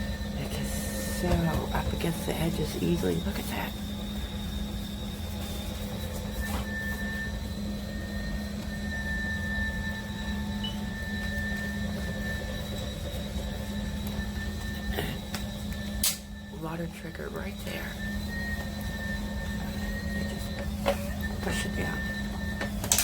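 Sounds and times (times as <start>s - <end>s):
electric spin mop whirring: 0.0s - 23.0s.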